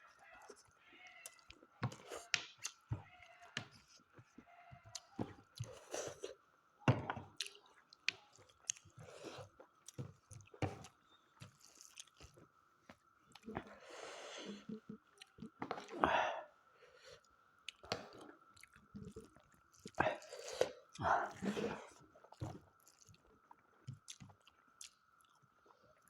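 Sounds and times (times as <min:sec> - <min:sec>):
person chewing and smacking: 0:01.2 - 0:06.4, 0:07.1 - 0:13.7, 0:14.6 - 0:16.0, 0:17.2 - 0:26.0.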